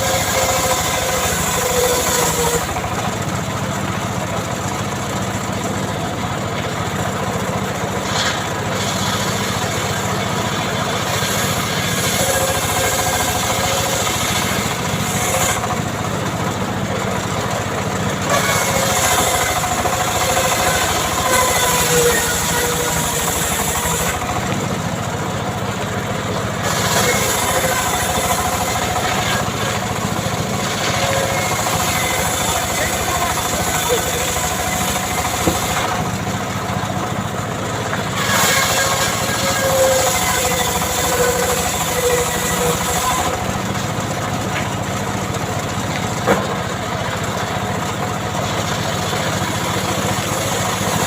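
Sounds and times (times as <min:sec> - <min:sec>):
small engine hissing: 0:00.0 - 0:51.0.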